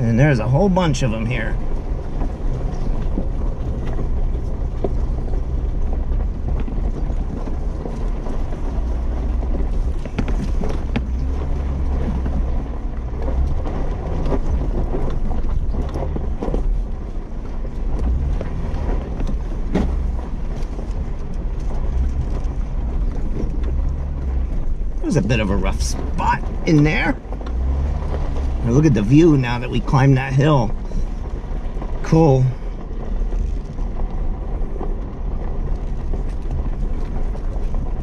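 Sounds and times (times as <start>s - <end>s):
engine low rumble: 0.0s - 38.0s
vehicle knocks and rattles: 0.0s - 38.0s.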